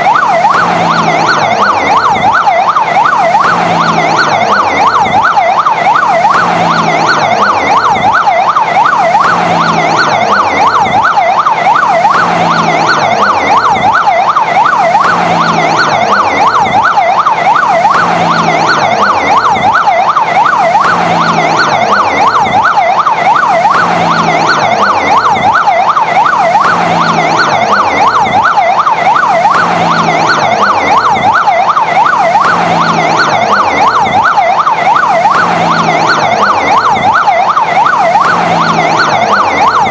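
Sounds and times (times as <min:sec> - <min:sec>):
fire engine siren yelping: 0:00.0 - 0:39.9.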